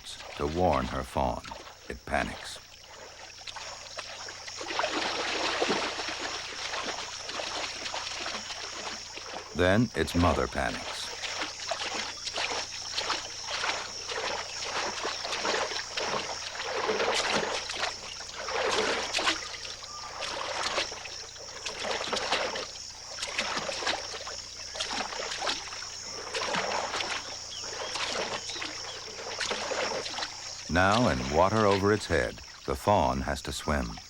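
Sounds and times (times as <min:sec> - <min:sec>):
deer splashing through water: 0:02.8 - 0:33.9.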